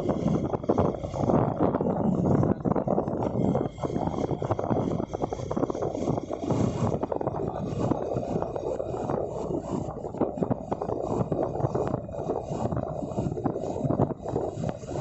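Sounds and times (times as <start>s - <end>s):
motorcycle road and engine noise: 0.0s - 15.0s
wind buffeting microphone: 0.0s - 15.0s.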